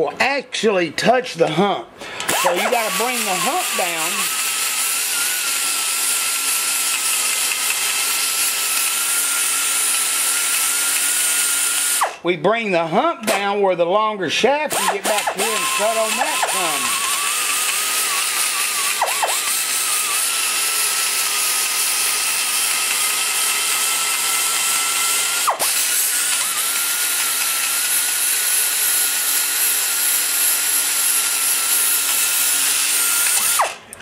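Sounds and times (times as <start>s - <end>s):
air die grinder whining: 2.0s - 12.3s, 14.7s - 34.0s
grinder cutting hiss: 2.1s - 12.2s, 14.7s - 34.0s.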